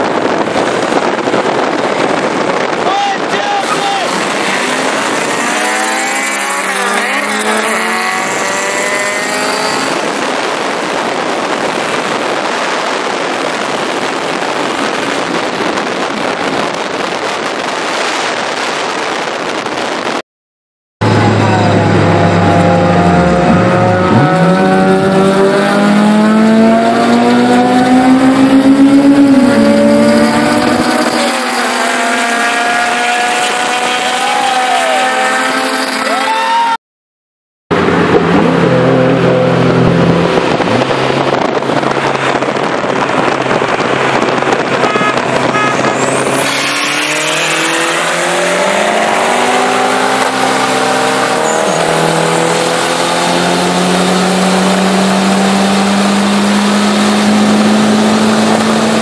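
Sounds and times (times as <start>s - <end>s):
car engines at full throttle: 0.0s - 20.2s, 21.0s - 36.8s, 37.7s - 59.0s
wind rush over microphone: 0.0s - 20.2s, 21.0s - 36.8s, 37.8s - 59.0s.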